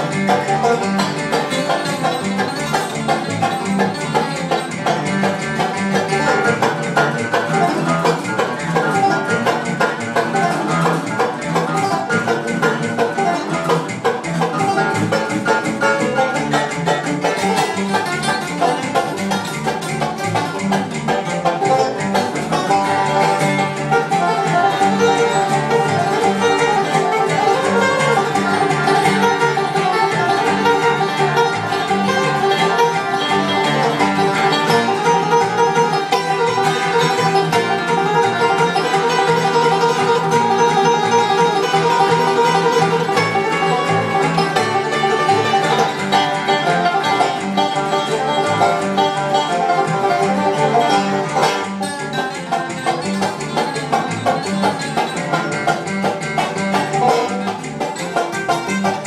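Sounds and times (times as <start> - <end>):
acoustic guitar: 0.0 - 59.0
banjo: 0.0 - 59.0
upright bass: 0.0 - 59.0.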